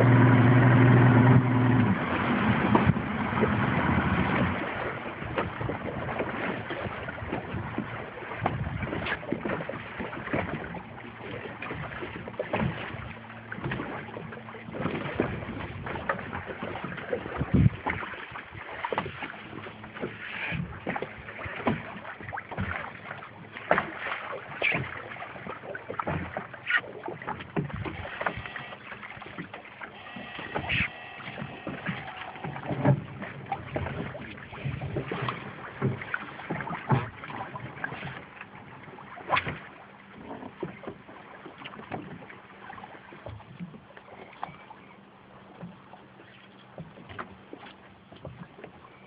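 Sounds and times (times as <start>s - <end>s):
knocks and clicks on boat: 0.0s - 49.0s
water sounds: 0.0s - 49.0s.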